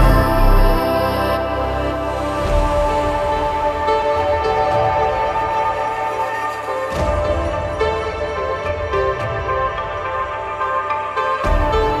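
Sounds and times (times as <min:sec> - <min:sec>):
calm sustained background music: 0:00.0 - 0:12.0.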